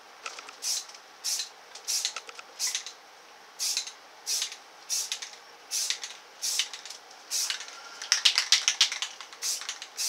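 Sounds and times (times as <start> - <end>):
spray can hissing: 0.6 - 2.9, 3.6 - 10.0.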